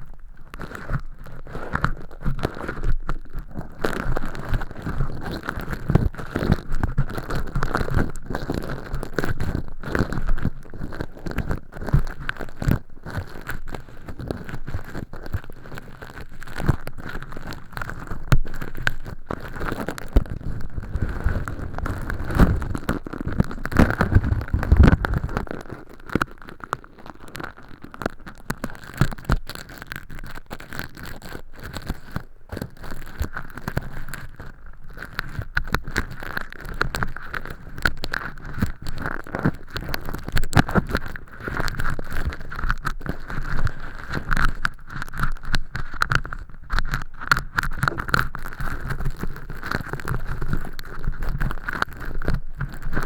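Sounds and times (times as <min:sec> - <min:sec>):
earpick scraping and scratching: 0:00.5 - 0:53.0.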